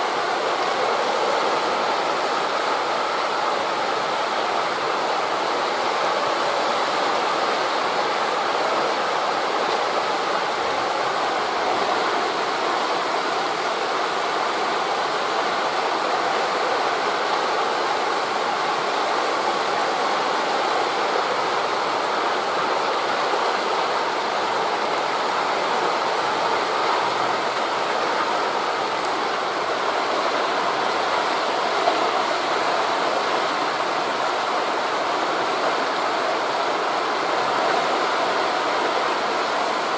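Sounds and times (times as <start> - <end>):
wind through forest leaves: 0.0 - 39.9.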